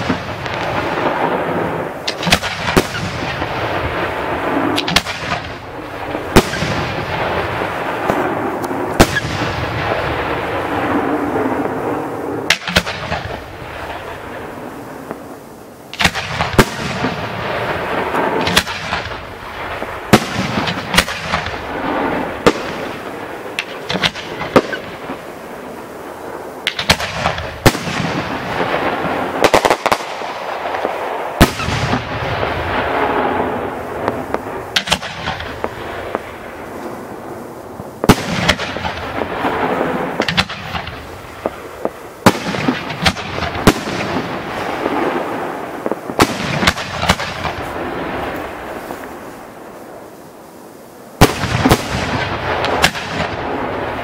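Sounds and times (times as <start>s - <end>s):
firework shells bursting: 0.0s - 50.1s.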